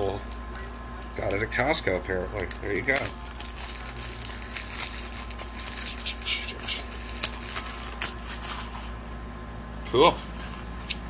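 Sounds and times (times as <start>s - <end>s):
crinkly plastic rustling: 0.2s - 9.2s, 10.1s - 11.0s.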